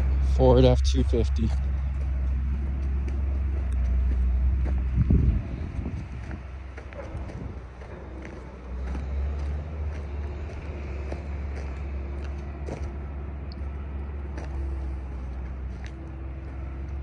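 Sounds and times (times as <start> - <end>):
footsteps on dirt: 0.0 - 17.0
low rumble: 0.0 - 17.0.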